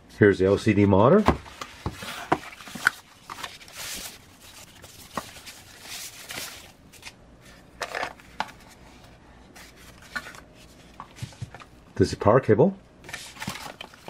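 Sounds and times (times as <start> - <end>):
cardboard and plastic rustling: 1.2 - 11.7, 13.0 - 14.0.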